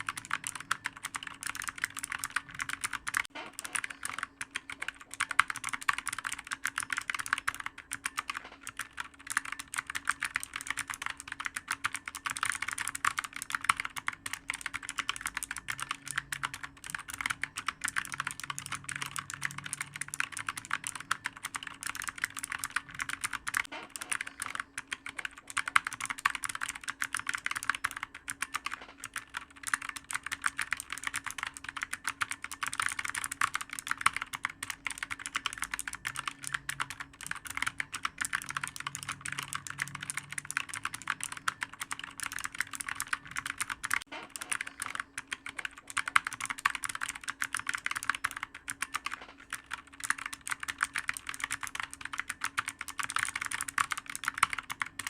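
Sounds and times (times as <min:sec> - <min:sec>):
fast typing on clicky keyboard: 0:00.0 - 0:55.0.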